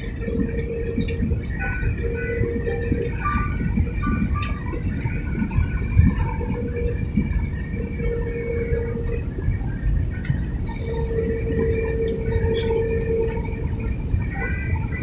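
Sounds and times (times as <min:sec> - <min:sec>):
airliner engine and airflow rumble: 0:00.0 - 0:15.0
faint hum: 0:00.0 - 0:15.0.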